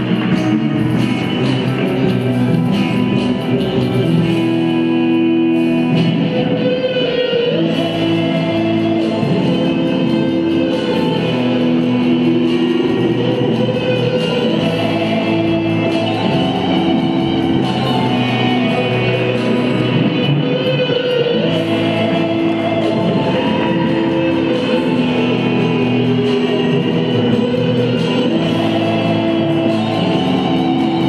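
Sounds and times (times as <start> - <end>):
music with plucked strings: 0.0 - 31.0.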